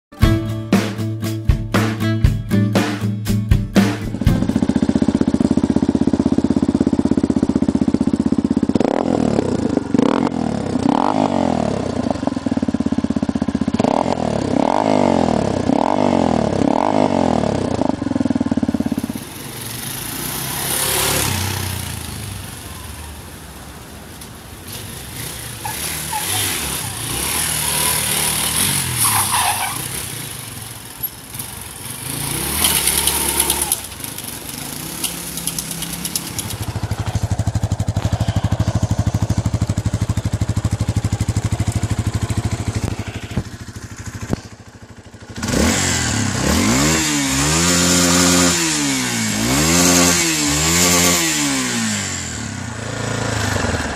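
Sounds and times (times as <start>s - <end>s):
motorcycle engine revving: 3.8s - 53.9s.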